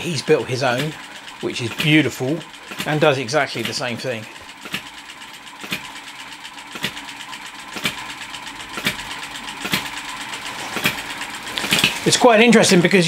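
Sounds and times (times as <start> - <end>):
model engine knocking: 0.0 - 13.0
pulleys whirring: 0.0 - 13.0.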